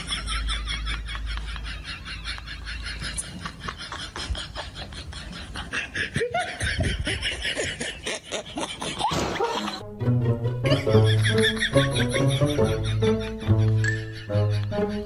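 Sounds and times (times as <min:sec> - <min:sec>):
person snickering and chuckling: 0:00.0 - 0:09.8, 0:10.6 - 0:15.0.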